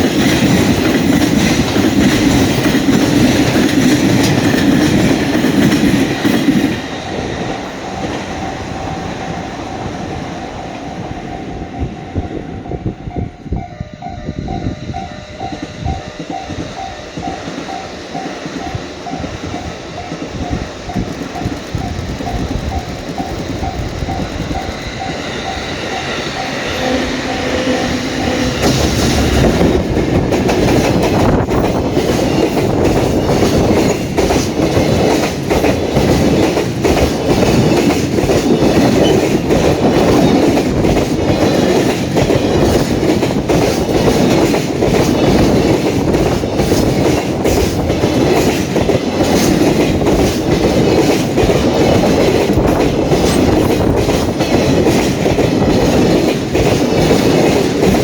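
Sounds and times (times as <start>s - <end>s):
crossing alarm dinging: 0.0s - 58.0s
train wheels clattering on rails: 0.0s - 58.0s.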